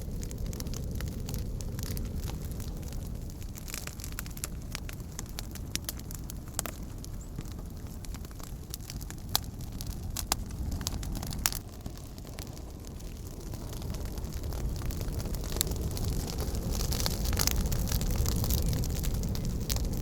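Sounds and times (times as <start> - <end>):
campfire flames rumbling: 0.0 - 20.0
fire crackling and popping: 0.0 - 20.0.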